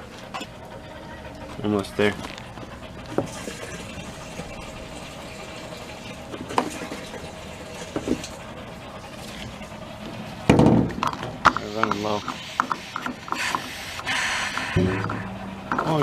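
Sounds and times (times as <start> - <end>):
electric fuel pump humming: 0.0 - 16.0.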